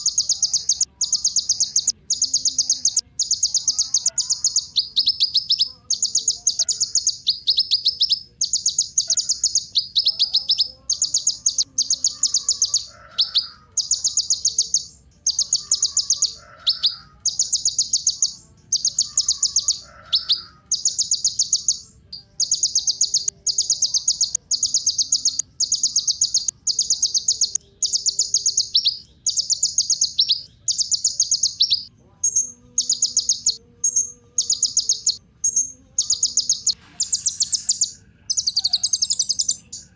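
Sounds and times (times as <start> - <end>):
sunbird buzzy trills: 0.0 - 39.9.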